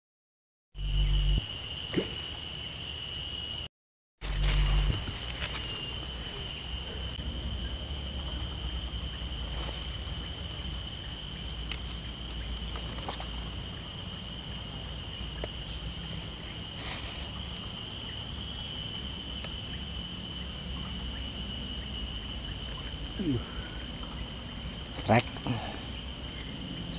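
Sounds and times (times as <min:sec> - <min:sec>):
insects droning: 0:00.8 - 0:26.9.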